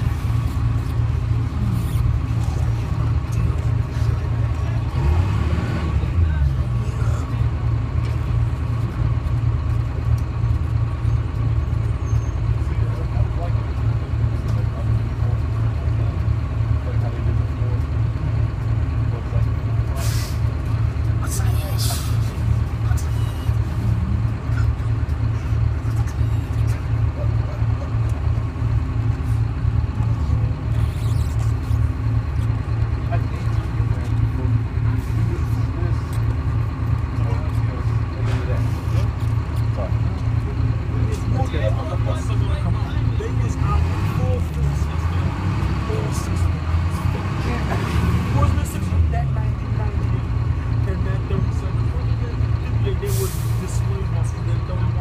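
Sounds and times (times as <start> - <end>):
bus diesel engine idling: 0.0 - 55.0.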